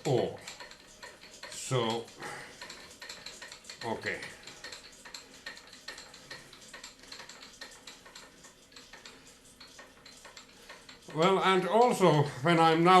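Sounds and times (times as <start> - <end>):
metal parts clinking: 0.0 - 12.0.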